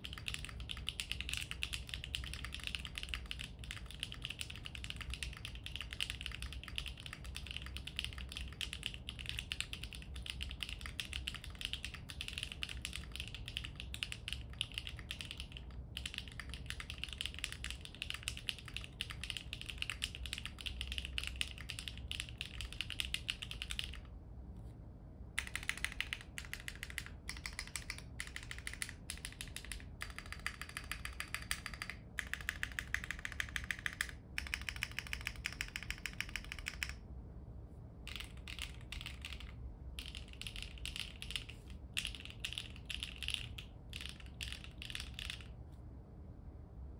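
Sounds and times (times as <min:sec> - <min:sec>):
fast keyboard typing clacks: 0:00.0 - 0:24.1, 0:25.4 - 0:37.0, 0:38.1 - 0:45.5.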